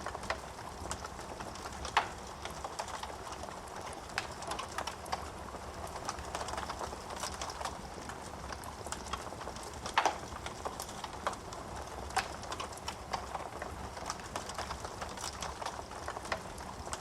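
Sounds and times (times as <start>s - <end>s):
burning wood popping: 0.0s - 17.0s.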